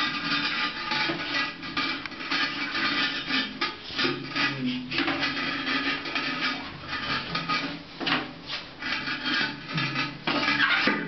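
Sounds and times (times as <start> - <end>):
ceramic scraping on tile: 0.0 - 11.0.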